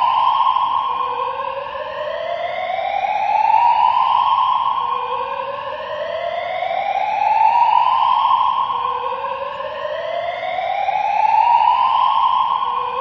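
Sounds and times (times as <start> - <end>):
fire alarm rising sweep: 0.0 - 13.0.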